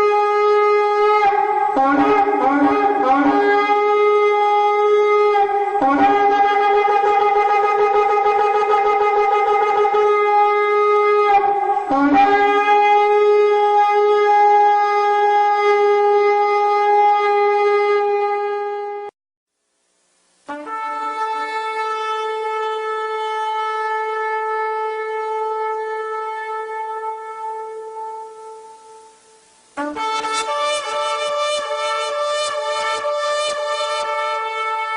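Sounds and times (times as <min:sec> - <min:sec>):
shofar long blasts: 0:00.0 - 0:19.1, 0:20.5 - 0:34.9.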